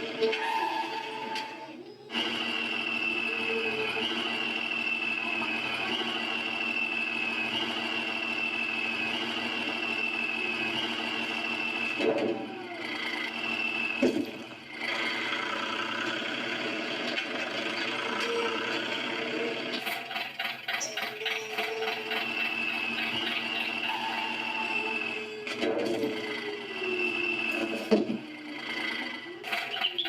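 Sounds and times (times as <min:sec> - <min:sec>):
toy motor and gears whirring: 0:00.0 - 0:14.4, 0:17.8 - 0:30.0.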